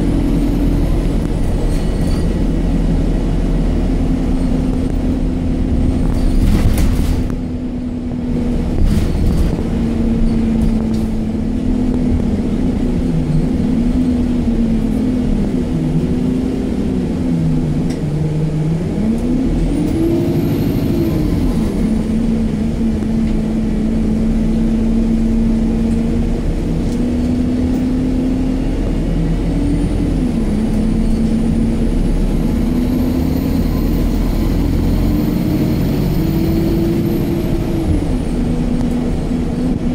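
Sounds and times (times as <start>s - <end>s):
bus diesel engine: 0.0s - 39.9s
road rumble: 0.0s - 39.9s.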